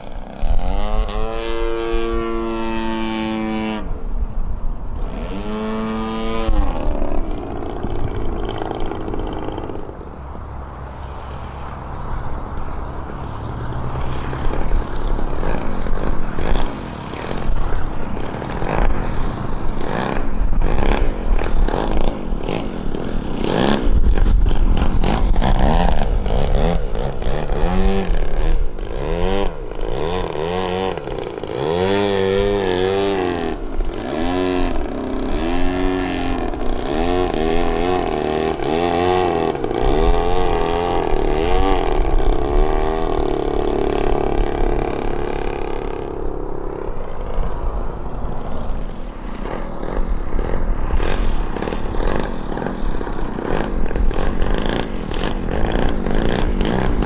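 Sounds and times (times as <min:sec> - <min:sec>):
model plane engine revving: 0:00.0 - 0:04.2, 0:04.9 - 0:13.1, 0:13.9 - 0:57.0.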